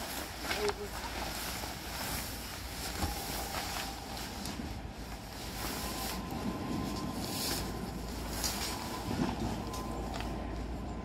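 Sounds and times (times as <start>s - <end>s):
nylon tent fly rustling: 0.0s - 10.8s.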